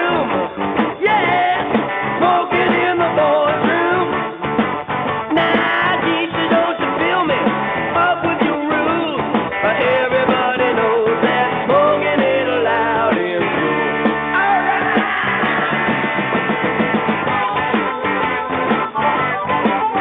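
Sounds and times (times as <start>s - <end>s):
tinny rock and roll music: 0.0s - 20.0s.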